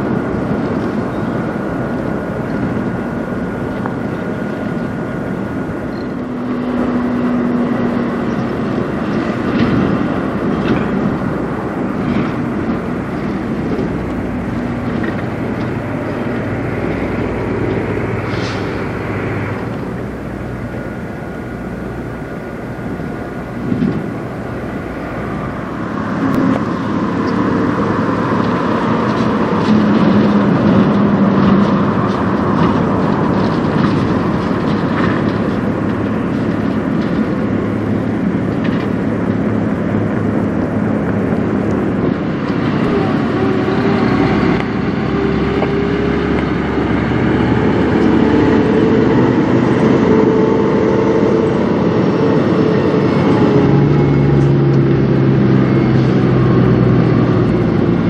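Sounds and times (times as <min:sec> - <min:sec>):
trucks driving past: 0:00.0 - 0:58.0
tyres rolling on road: 0:00.0 - 0:58.0.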